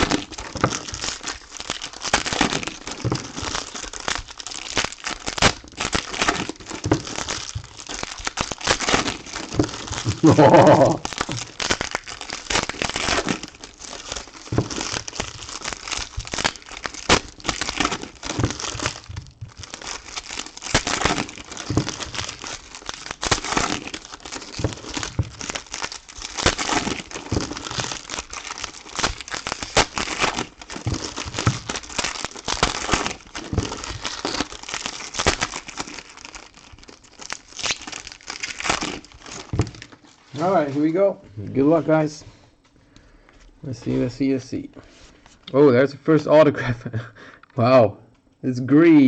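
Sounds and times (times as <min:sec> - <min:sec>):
plastic wrappers crinkling and tearing: 0:00.0 - 0:45.6.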